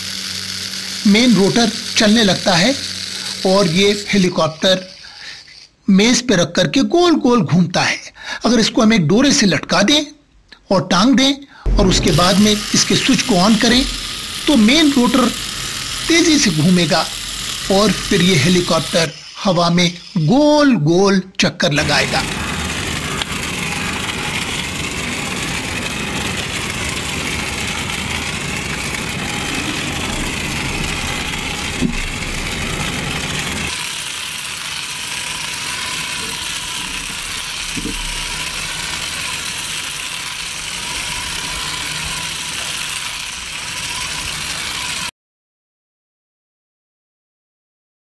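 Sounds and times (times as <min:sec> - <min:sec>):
toy helicopter motor running: 0:00.0 - 0:06.7, 0:11.6 - 0:45.1.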